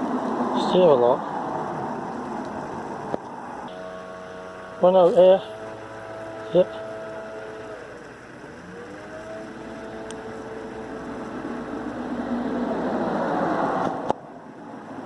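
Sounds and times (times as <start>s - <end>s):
tire inflator motor running: 0.0s - 15.0s.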